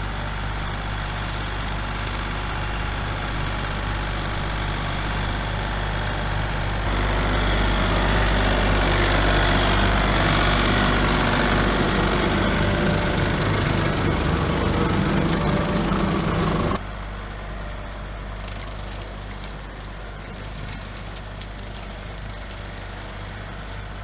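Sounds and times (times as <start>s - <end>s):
small tractor engine running: 0.0s - 24.0s.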